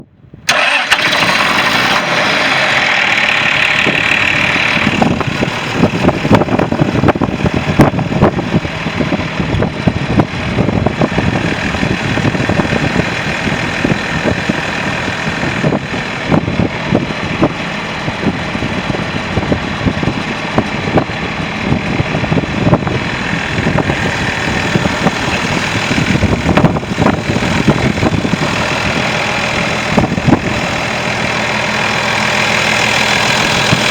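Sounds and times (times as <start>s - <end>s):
diesel tractor engine idling: 0.4s - 33.9s.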